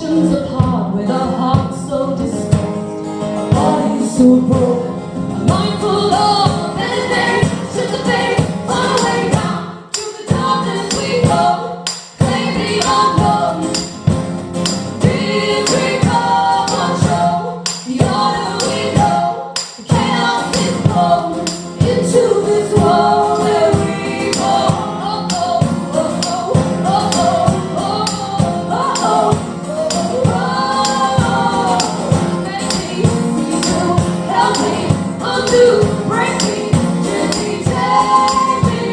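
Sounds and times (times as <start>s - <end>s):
live band playing: 0.1s - 38.9s
person singing: 3.5s - 14.0s, 15.1s - 38.9s
steady percussion beat: 5.5s - 38.9s.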